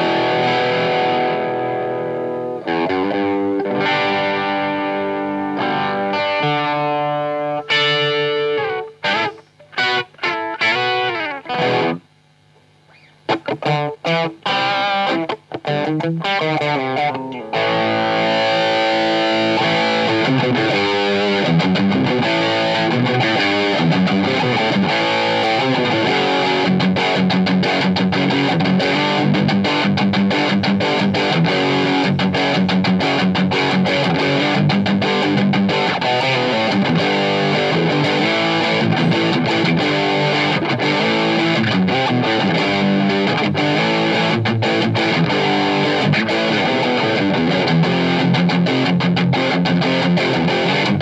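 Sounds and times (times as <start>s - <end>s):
electric guitar playing: 0.0s - 51.0s.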